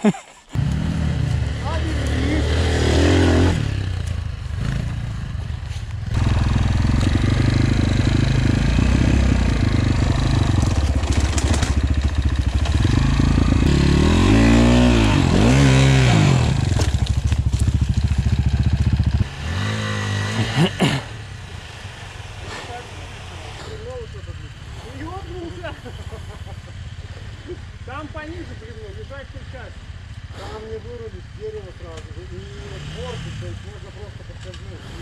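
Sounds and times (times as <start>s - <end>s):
dirt bike engine revving: 0.5s - 31.4s, 32.2s - 35.0s
faint distant bike revving: 0.6s - 35.0s.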